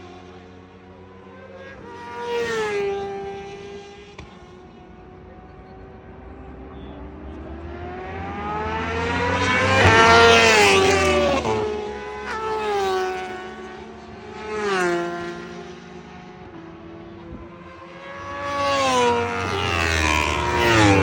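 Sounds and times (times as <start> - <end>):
motorcycle passing at speed: 1.1 - 4.3, 5.0 - 21.0.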